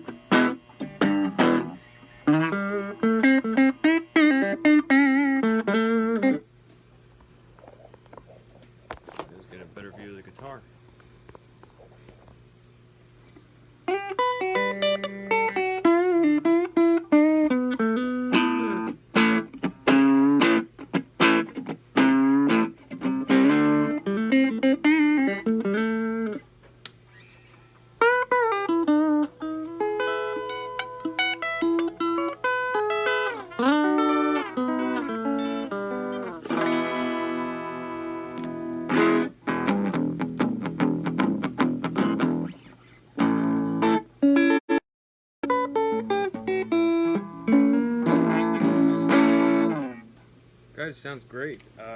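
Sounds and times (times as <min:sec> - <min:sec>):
electric guitar through amplifier: 0:00.0 - 0:06.8, 0:13.3 - 0:44.6, 0:45.4 - 0:50.4.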